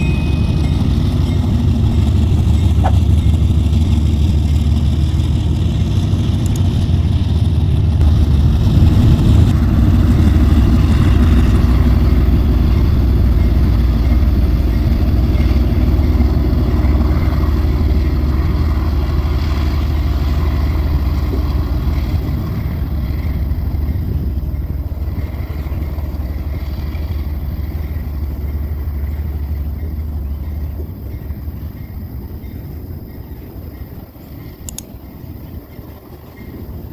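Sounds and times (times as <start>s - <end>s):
diesel locomotives rumbling: 0.0s - 36.9s.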